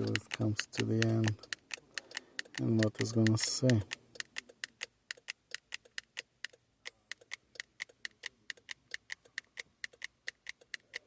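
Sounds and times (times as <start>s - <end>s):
sharp ticking clicks: 0.0s - 11.0s.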